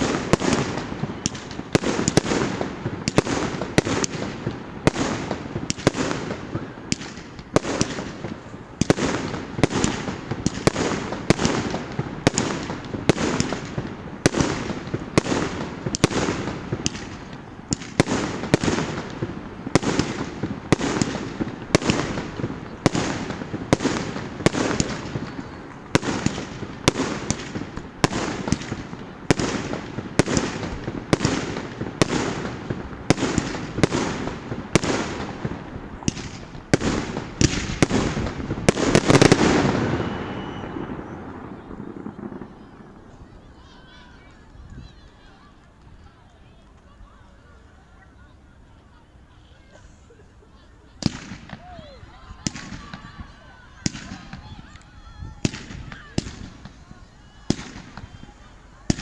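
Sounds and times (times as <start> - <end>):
fireworks bangs: 0.0 - 46.1, 51.0 - 59.0
fireworks crackling: 0.0 - 59.0.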